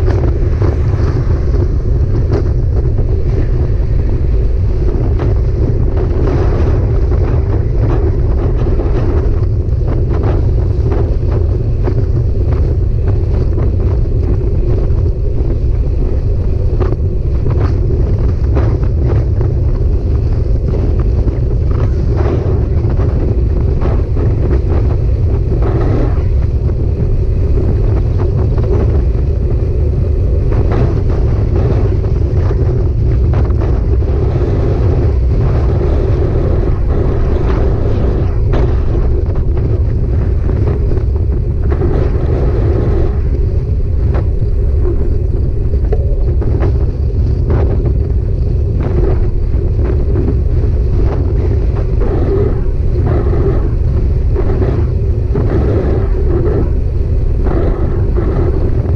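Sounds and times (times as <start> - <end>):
steady drone: 0.0 - 58.9
wind rumble on microphone: 0.0 - 58.9.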